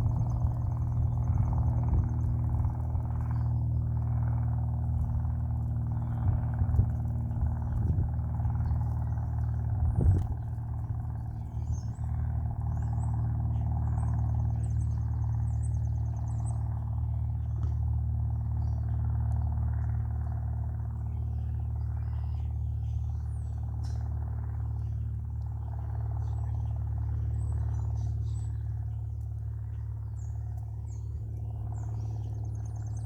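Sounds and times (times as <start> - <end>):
low engine hum: 0.0 - 33.0
small birds chirping: 0.0 - 33.0.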